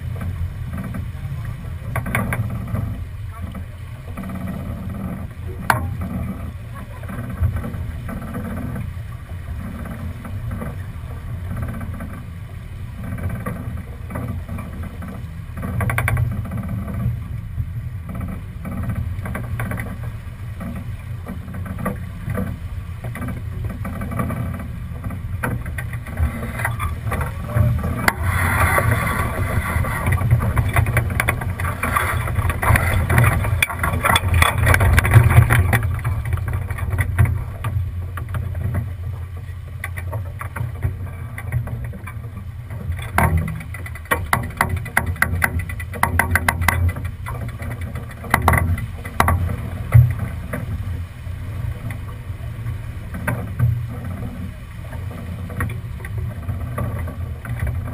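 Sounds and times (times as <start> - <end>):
water splashing along hull: 0.0 - 57.9
wind buffeting microphone: 0.0 - 57.9.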